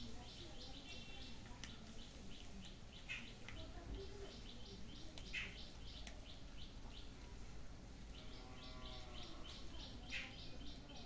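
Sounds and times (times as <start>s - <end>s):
small bird chirping: 0.0s - 7.2s, 8.1s - 11.0s
outdoor background noise: 0.0s - 11.0s.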